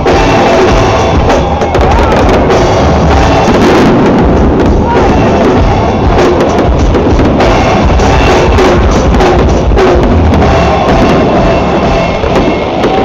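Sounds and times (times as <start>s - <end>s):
fireworks banging and crackling: 0.0s - 13.0s
loud music with drum beat: 0.0s - 13.0s.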